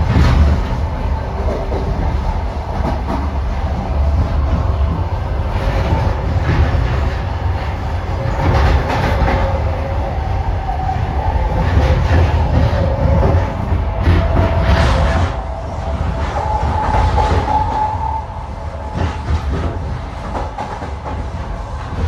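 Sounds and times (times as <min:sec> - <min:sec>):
clickety-clack over rail joints: 0:00.0 - 0:22.0
train wheels rumbling: 0:00.0 - 0:22.0.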